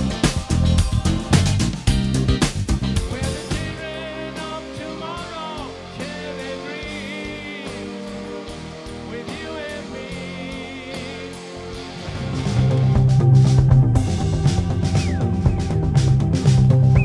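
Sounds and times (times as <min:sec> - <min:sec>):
rock music with bending melody: 0:00.0 - 0:17.0
steady low bass: 0:00.0 - 0:17.0.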